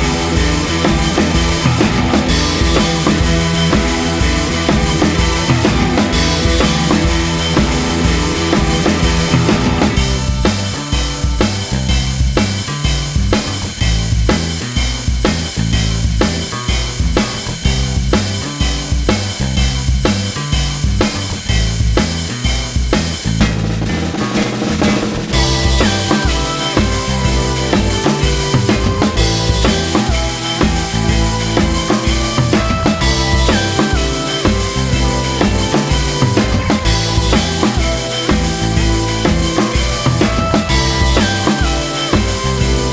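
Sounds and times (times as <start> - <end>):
music with drum beat and bass: 0.0 - 42.9.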